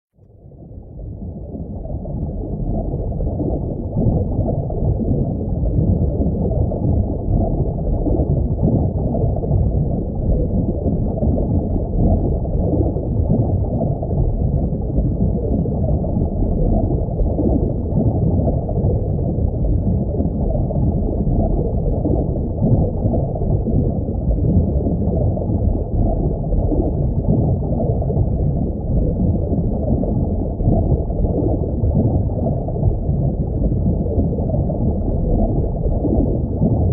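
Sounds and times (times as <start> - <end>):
muffled underwater rumbling: 0.1 - 36.9.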